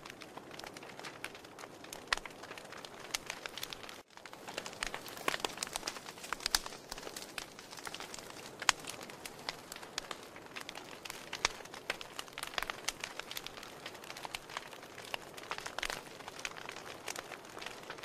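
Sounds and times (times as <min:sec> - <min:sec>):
wood fire crackling and popping: 0:00.0 - 0:18.0
fire hissing: 0:00.5 - 0:17.7.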